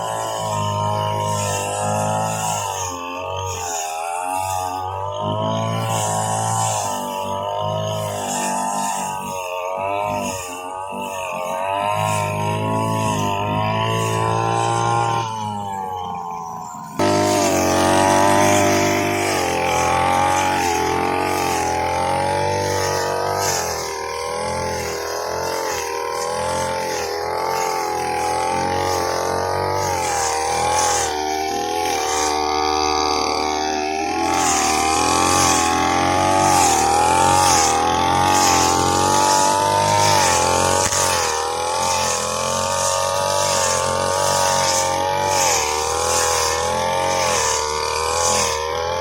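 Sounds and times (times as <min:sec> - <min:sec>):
lawn mower engine revving: 0:00.0 - 0:49.0.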